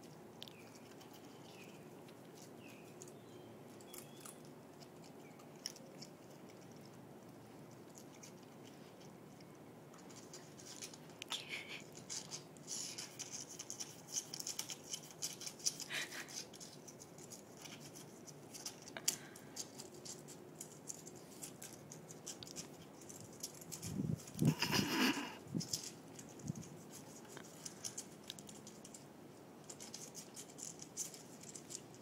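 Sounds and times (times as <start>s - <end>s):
raccoon crunching potato chip: 0.0s - 32.0s.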